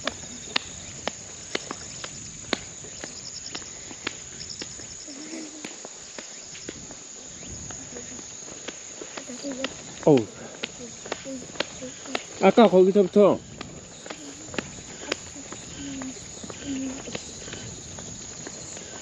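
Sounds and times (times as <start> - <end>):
insect chirps: 0.0 - 19.0
insects droning: 0.0 - 19.0.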